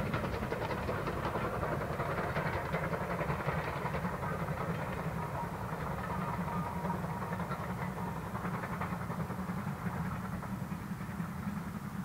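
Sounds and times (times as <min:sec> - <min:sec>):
distant steam locomotive rumble: 0:00.0 - 0:12.0.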